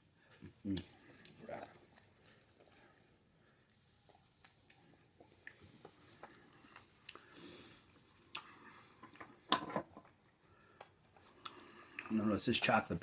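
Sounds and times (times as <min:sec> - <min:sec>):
person chewing: 0:00.4 - 0:12.2.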